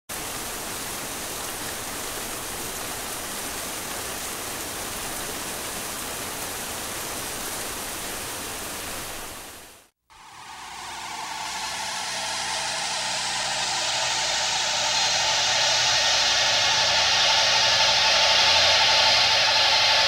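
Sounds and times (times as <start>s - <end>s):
steady rain hiss: 0.1s - 20.0s.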